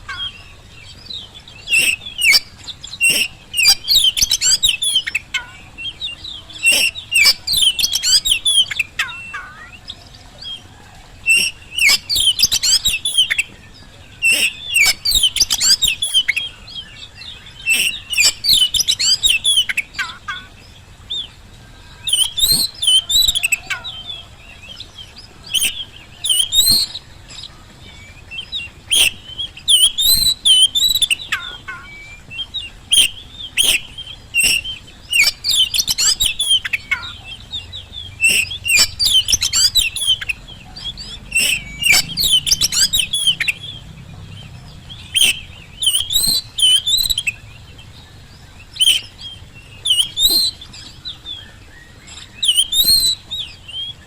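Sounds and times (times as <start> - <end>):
magpie-robin singing: 0.0 - 54.0.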